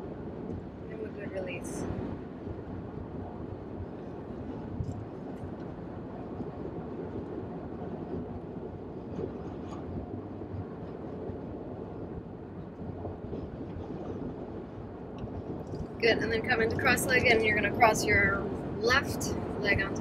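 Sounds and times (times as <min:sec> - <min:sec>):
road and engine noise in car: 0:00.0 - 0:20.0.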